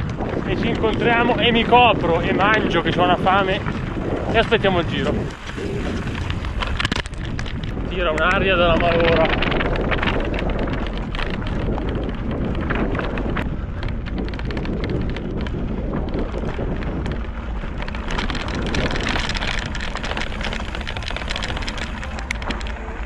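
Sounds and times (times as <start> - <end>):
bike tyres on gravel: 0.0 - 23.0
wind buffeting microphone: 0.0 - 23.0.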